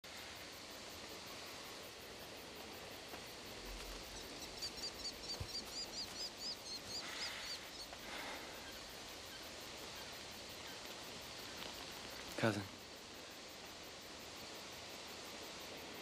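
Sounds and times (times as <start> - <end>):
outdoor night ambience hiss: 0.0 - 16.0.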